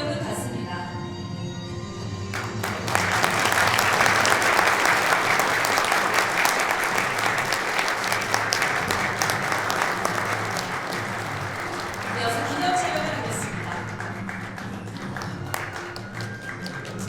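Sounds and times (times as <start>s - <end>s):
soft background music: 0.0s - 17.0s
audience applauding: 2.4s - 17.0s.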